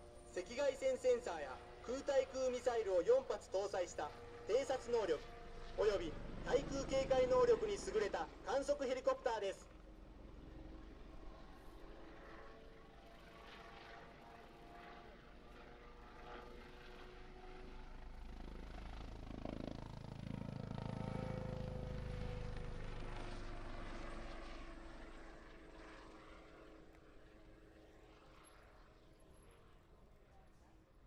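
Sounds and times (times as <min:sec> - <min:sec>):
helicopter flying past: 0:00.0 - 0:31.0.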